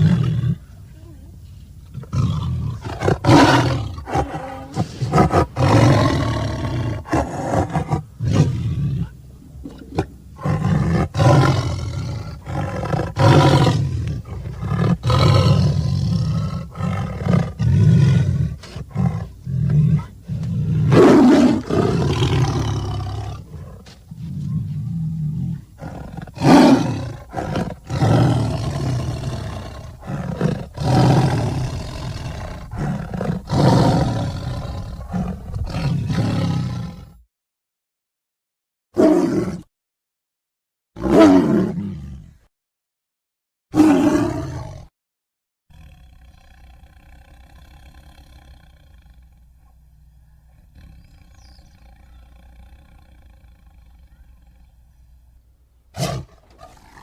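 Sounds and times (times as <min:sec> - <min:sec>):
tiger growling and roaring: 0:00.0 - 0:00.9, 0:01.8 - 0:37.2, 0:38.9 - 0:39.7, 0:41.0 - 0:42.4, 0:43.7 - 0:45.0, 0:45.7 - 0:55.3, 0:55.9 - 0:57.0.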